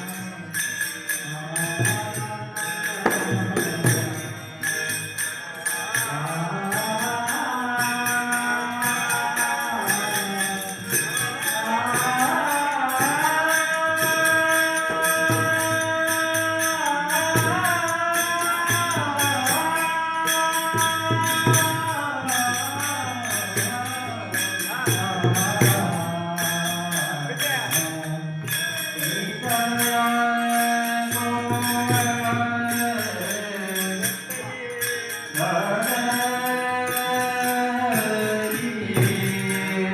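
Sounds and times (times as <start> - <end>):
steady metallic percussion: 0.0 - 39.9.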